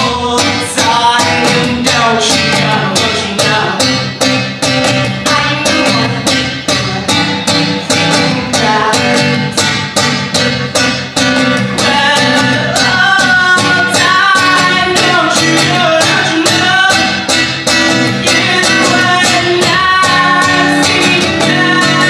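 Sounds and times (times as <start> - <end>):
man singing: 0.0 - 4.1, 5.2 - 9.7, 11.7 - 17.3, 18.1 - 22.0
acoustic guitar strumming: 0.0 - 22.0.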